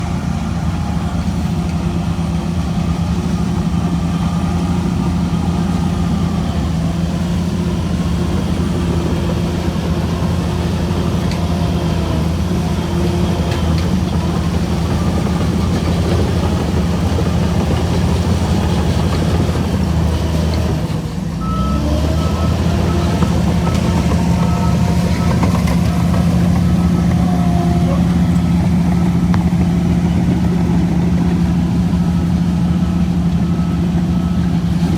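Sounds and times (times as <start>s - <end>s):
bulldozer diesel engine running: 0.0s - 34.9s
reversing alarm beeping: 0.4s - 34.9s.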